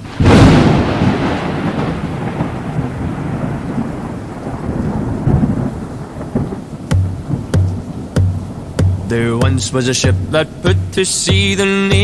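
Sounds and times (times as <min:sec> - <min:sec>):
steady rain: 0:00.0 - 0:12.0
thunderclap with long rumble: 0:00.0 - 0:12.0.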